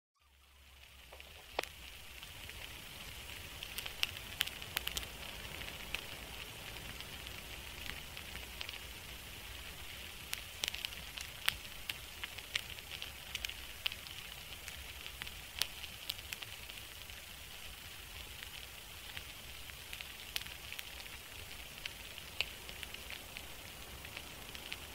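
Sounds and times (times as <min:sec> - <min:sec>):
crackles and pops: 0:00.2 - 0:24.9
steady hiss: 0:00.2 - 0:24.9.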